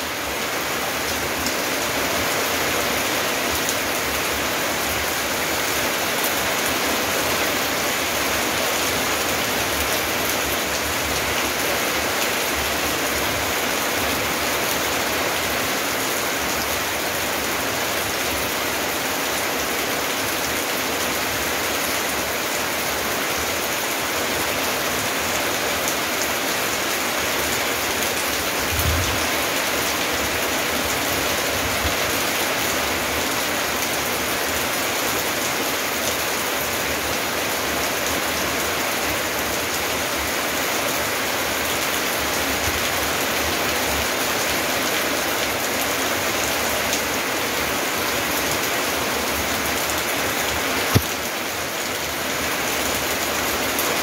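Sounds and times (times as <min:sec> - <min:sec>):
rain on plants and paving: 0:00.0 - 0:54.0.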